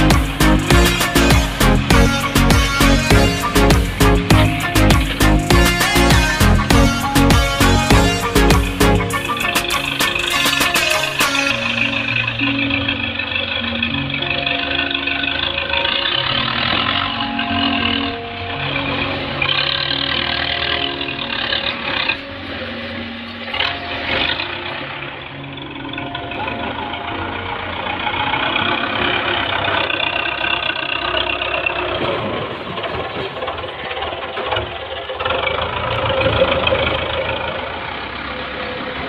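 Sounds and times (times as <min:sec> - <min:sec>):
diesel tractor engine under load: 0:00.0 - 0:39.0.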